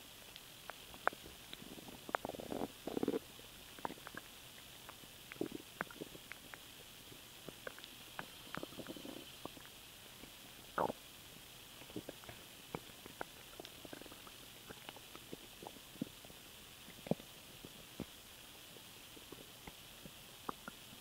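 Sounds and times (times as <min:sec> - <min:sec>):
stomach gurgling: 0:00.3 - 0:21.0.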